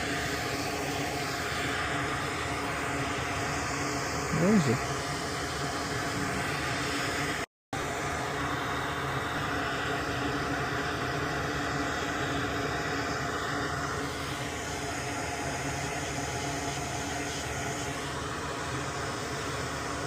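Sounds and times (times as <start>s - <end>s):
fan whirring: 0.0s - 20.0s
steady hum tones: 0.0s - 20.0s.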